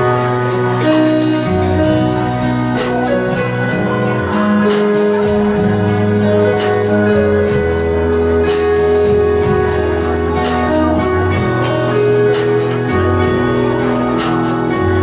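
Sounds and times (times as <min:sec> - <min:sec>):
acoustic guitar: 0:00.0 - 0:15.0
electric bass: 0:00.0 - 0:15.0
keyboard chords: 0:00.0 - 0:15.0
steady beat: 0:00.0 - 0:15.0.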